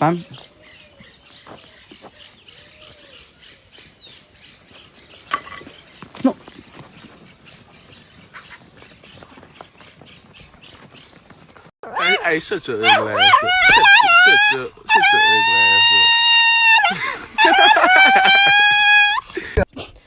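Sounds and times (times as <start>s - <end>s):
birds chirping and calling: 0.0s - 18.4s.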